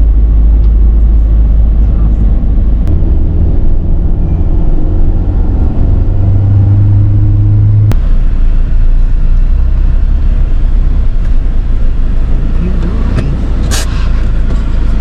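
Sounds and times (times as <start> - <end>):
engine drone inside vehicle: 0.0 - 15.0
road rumble: 0.0 - 15.0.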